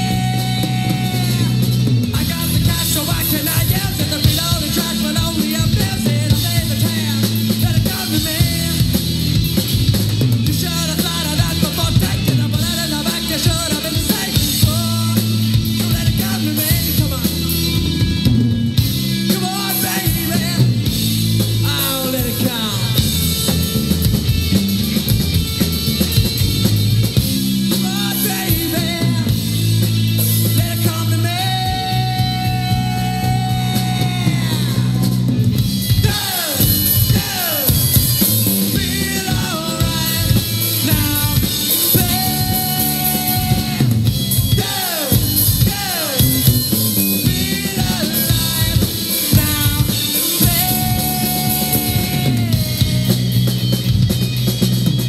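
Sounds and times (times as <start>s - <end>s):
man singing lead vocals: 0.0s - 24.6s, 27.1s - 54.0s
live rock band playing: 0.0s - 55.0s.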